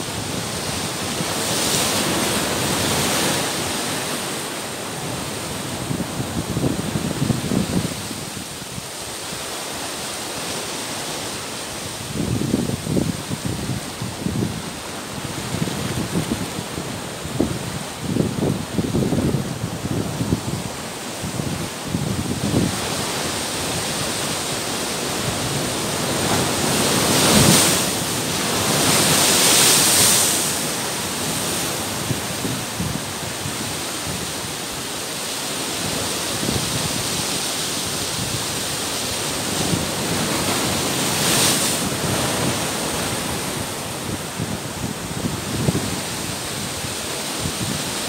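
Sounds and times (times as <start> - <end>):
waves crashing on rocks: 0.0 - 48.0.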